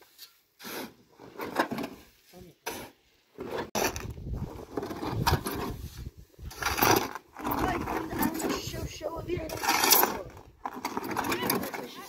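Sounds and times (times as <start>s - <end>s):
shovel scraping gravel: 0.0s - 12.0s.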